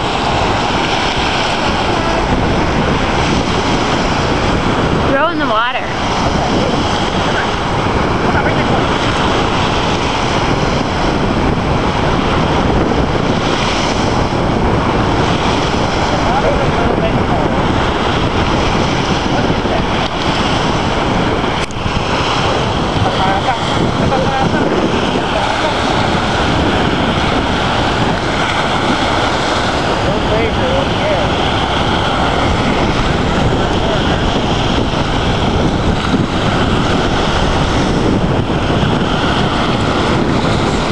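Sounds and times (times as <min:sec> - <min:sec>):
small waves breaking: 0:00.0 - 0:40.9
wind buffeting microphone: 0:00.0 - 0:40.9.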